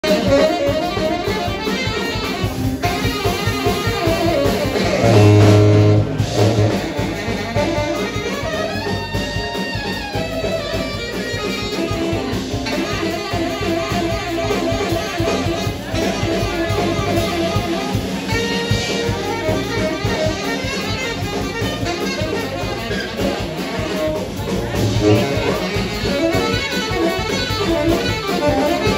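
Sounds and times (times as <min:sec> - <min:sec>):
electric guitar jazz: 0:00.0 - 0:28.9
saxophone: 0:00.0 - 0:28.9.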